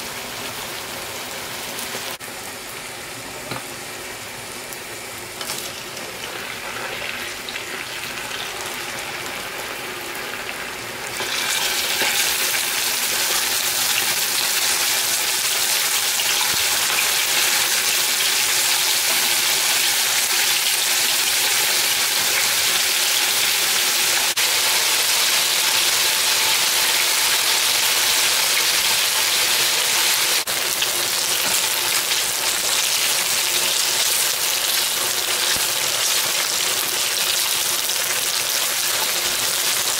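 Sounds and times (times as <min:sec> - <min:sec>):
meat sizzling in hot oil: 0:00.2 - 0:39.9.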